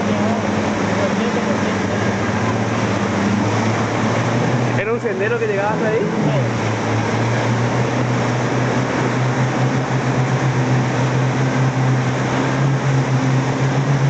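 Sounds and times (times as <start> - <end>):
outboard motor humming: 0.0 - 14.0
rushing water and wind: 0.0 - 14.0.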